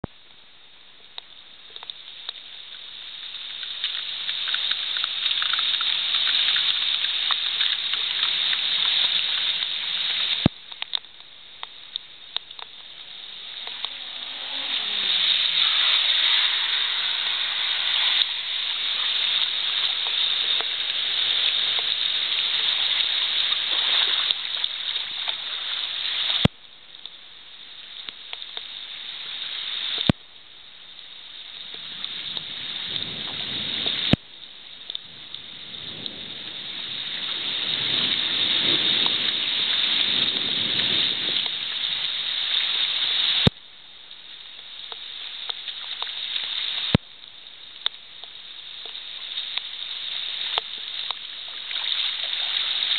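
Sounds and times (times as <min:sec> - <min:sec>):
heavy rain: 0:00.0 - 0:52.9
water streaming over pavement: 0:00.0 - 0:52.9.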